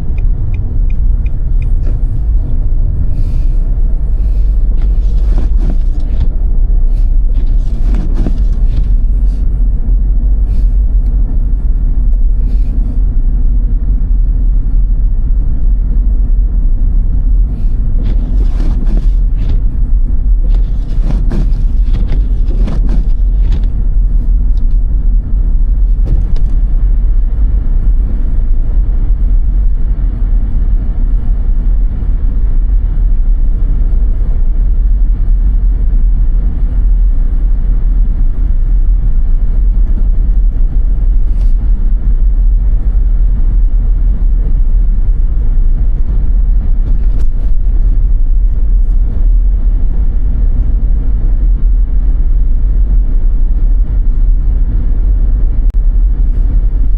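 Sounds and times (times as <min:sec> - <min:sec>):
car driving through snow: 0:00.0 - 0:56.9.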